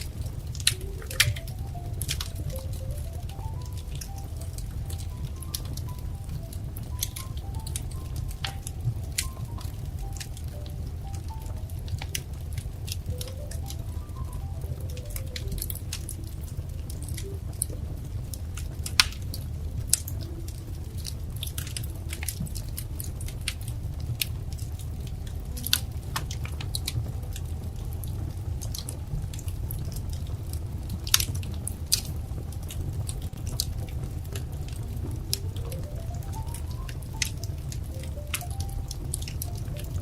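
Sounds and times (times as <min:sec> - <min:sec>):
fire pops and snaps: 0:00.0 - 0:40.0
wood fire crackling: 0:00.0 - 0:40.0.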